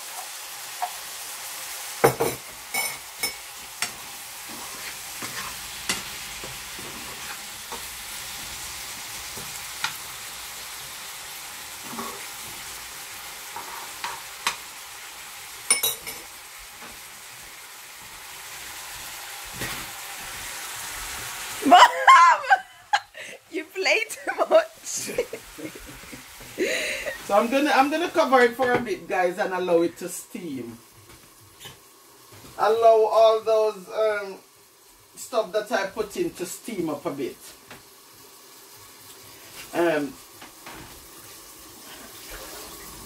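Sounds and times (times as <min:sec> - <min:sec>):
vegetables sizzling in a frying pan: 0:00.0 - 0:43.0.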